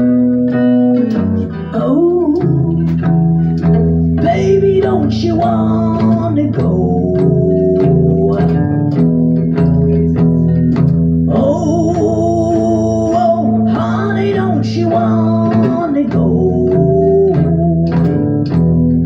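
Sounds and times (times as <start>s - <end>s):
guitar picking bluesy notes: 0.0s - 19.0s.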